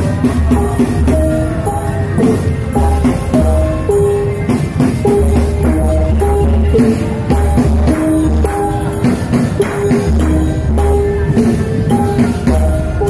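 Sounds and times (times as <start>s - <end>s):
drums: 0.0s - 13.0s
low bass notes: 0.0s - 13.0s
melody of clear held notes: 0.0s - 13.0s.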